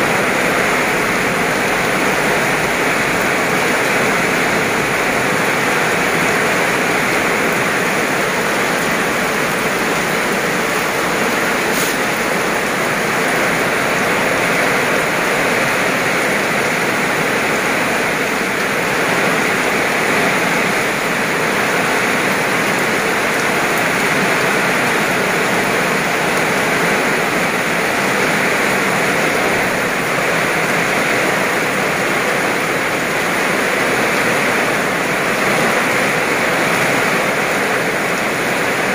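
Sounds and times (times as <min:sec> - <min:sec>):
heavy rain on asphalt: 0:00.0 - 0:38.9.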